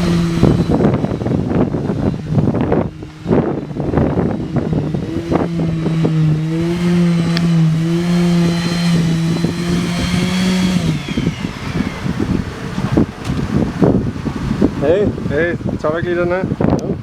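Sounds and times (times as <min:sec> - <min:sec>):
motor running and winding down: 0:00.0 - 0:15.5
wind buffeting microphone: 0:00.0 - 0:17.0.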